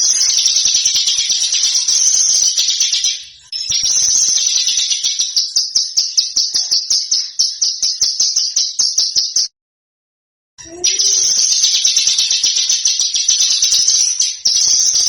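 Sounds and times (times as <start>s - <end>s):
small songbird singing: 0.0s - 9.5s, 10.6s - 15.0s.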